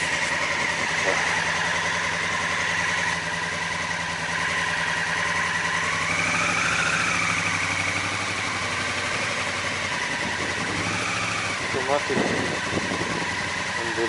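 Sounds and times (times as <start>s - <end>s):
motorcycle engine at low revs: 0.0s - 14.0s.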